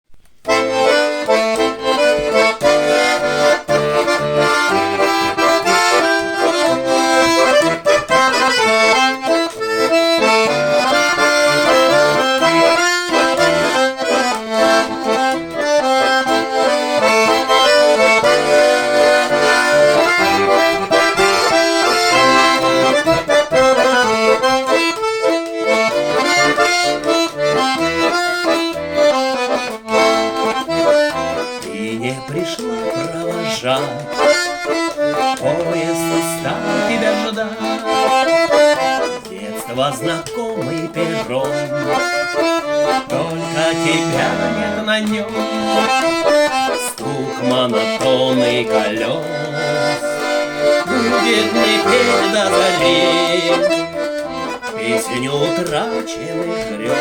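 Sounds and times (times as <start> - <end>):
button accordion melody: 0.2 - 57.0.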